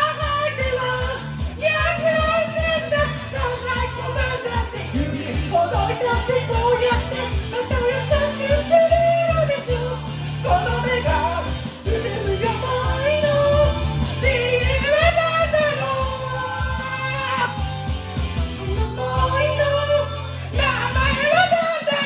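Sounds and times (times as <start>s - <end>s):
backing track with bass and drums: 0.0s - 22.0s
man singing pop-rock song: 0.0s - 22.0s.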